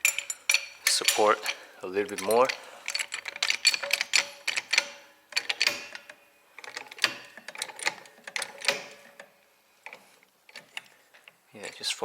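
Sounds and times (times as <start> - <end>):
trolley jack clicking and clanking: 0.0 - 10.9.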